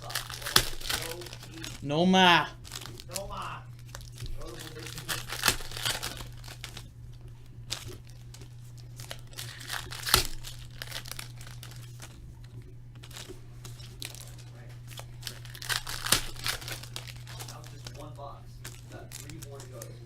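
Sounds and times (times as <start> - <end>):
card pack wrappers crinkling: 0.0 - 20.0
cards rustling: 0.0 - 20.0.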